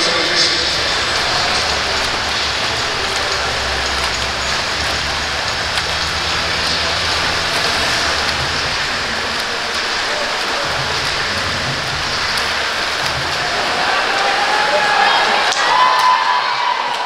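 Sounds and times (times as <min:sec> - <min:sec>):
low steady hum: 0:00.0 - 0:15.4
splashing water echoing: 0:00.0 - 0:17.0.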